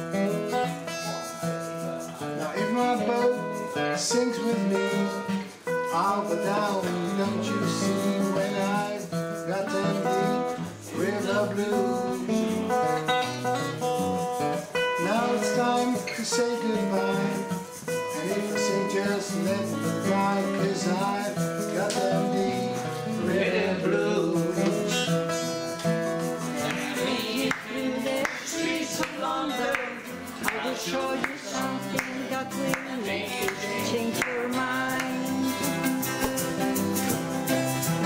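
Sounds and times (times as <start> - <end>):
acoustic guitar folk song: 0.0 - 38.0
person singing: 0.0 - 38.0.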